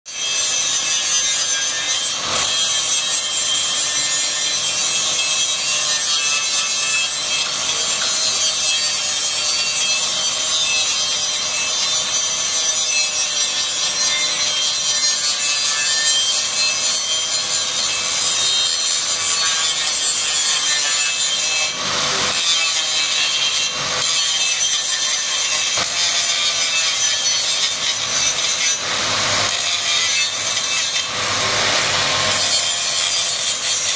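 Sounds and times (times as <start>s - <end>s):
angle grinder cutting steel pipe: 0.1s - 33.9s.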